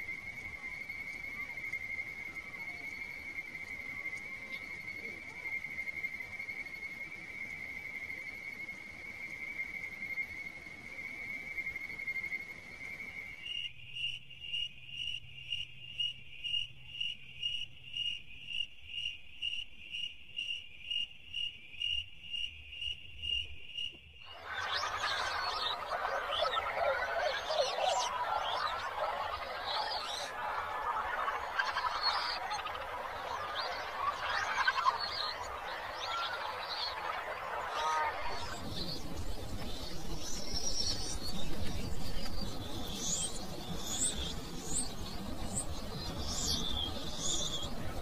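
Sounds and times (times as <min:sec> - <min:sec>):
chorus of insect calls: 0:00.0 - 0:48.0
insect chirping: 0:00.0 - 0:48.0
insects droning: 0:00.0 - 0:48.0.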